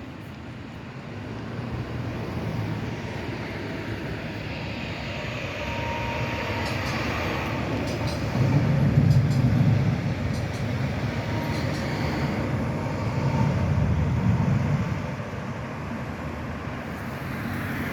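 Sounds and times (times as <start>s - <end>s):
tram rumbling on rails: 0.0s - 17.9s.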